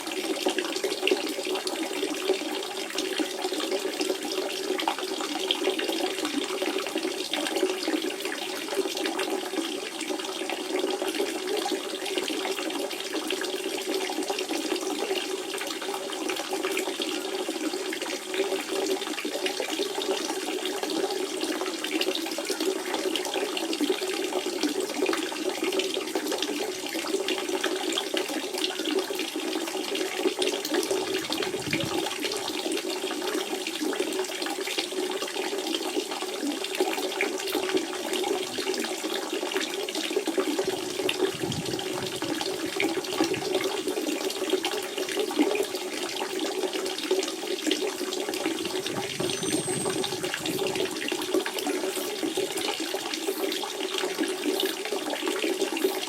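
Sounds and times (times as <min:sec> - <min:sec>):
spring water trickling and gurgling: 0:00.0 - 0:56.0.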